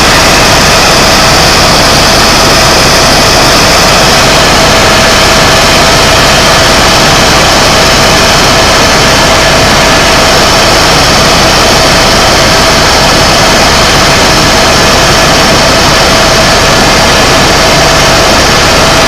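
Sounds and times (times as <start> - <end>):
constant engine whine: 0.0 - 19.0
helicopter engine and rotor noise: 0.0 - 19.0.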